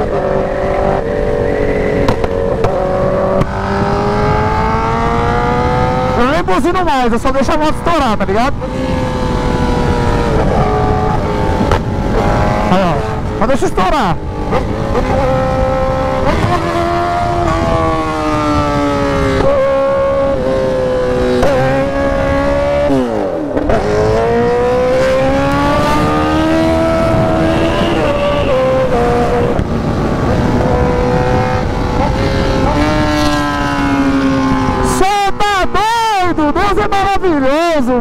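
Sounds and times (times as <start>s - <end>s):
exhaust popping: 0.0s - 6.3s, 7.5s - 35.8s
motorcycle engine revving: 0.0s - 36.0s.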